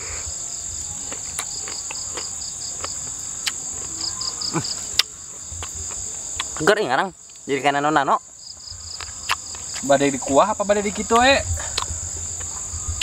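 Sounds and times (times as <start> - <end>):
high-pitched insect chorus: 0.0 - 13.0
pulsing insect chirp: 0.0 - 13.0.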